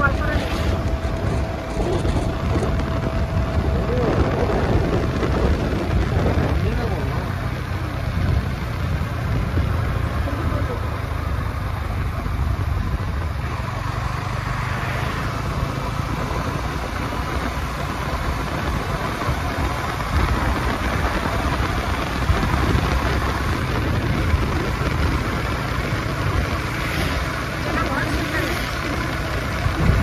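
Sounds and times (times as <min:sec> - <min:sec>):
motorcycle engine cruising: 0:00.0 - 0:30.0
wind and road noise: 0:00.0 - 0:30.0.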